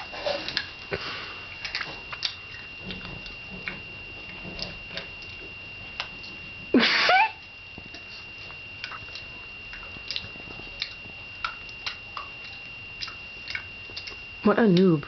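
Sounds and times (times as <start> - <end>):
person chewing something hard: 0.0 - 6.7, 7.4 - 14.4.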